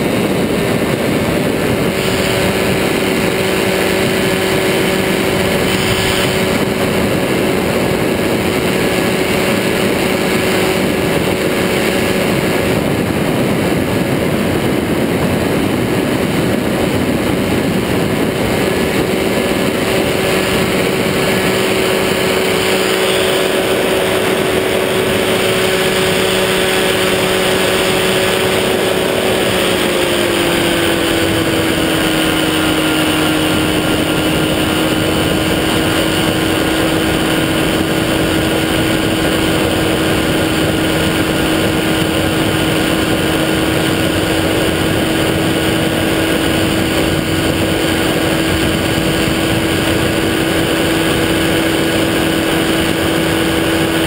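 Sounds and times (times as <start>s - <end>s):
air rushing past: 0.0s - 54.0s
engine and propeller running: 0.0s - 54.0s.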